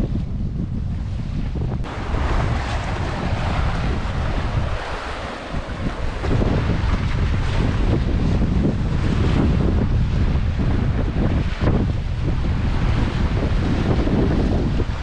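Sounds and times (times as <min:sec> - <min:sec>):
wind buffeting microphone: 0:00.0 - 0:15.0
waves washing on rocky shore: 0:01.8 - 0:15.0.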